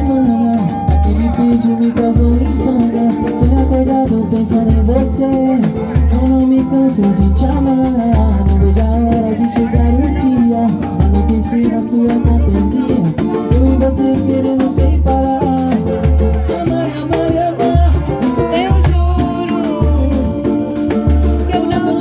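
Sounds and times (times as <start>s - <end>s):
deep bass drum beats: 0.0s - 22.0s
instrumental samba music: 0.0s - 22.0s
pitched melody lines: 0.0s - 22.0s.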